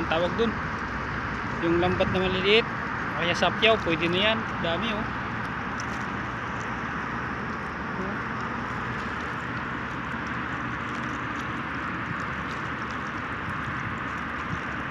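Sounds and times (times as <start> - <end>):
rushing noise over sea: 0.0 - 14.9.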